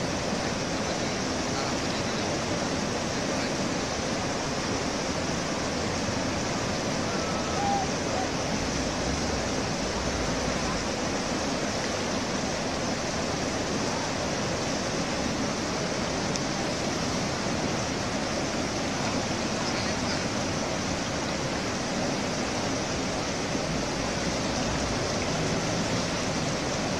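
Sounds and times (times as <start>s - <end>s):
river rushing through rapids: 0.0s - 26.9s.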